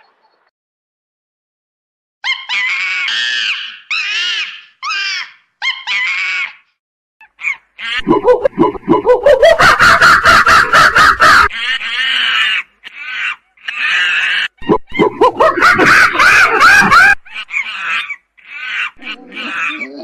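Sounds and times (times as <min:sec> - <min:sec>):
chimpanzees hooting and screaming: 0:02.2 - 0:06.6, 0:07.3 - 0:20.0.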